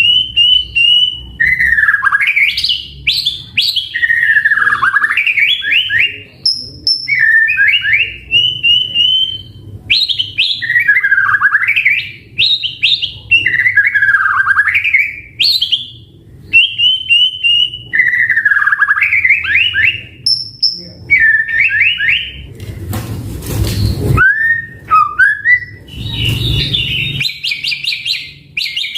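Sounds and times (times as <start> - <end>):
bird singing whistled phrases: 0.0 - 22.4, 23.8 - 28.9.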